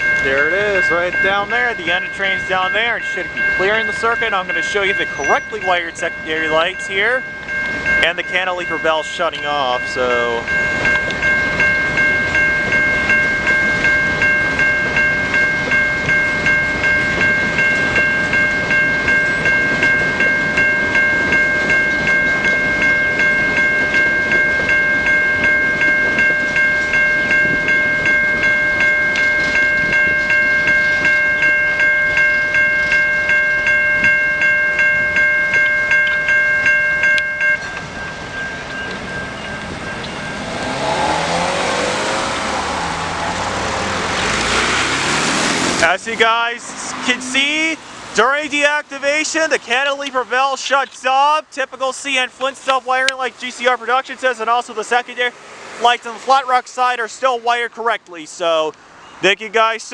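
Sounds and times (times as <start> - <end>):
railroad crossing bell ringing: 0.0 - 59.9.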